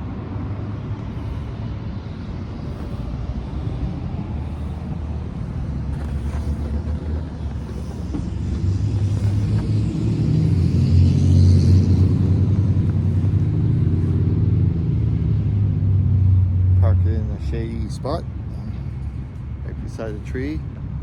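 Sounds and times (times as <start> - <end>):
approaching vehicle engine: 0.0 - 20.4
rumble of passing vehicles: 0.0 - 21.0.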